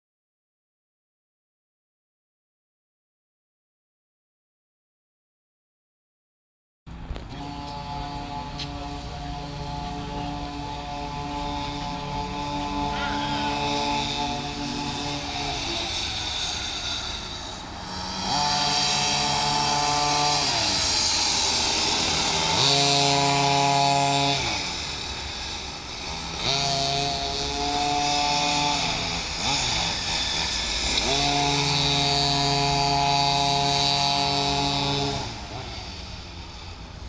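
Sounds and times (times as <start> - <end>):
small two-stroke engines revving: 6.9 - 37.0.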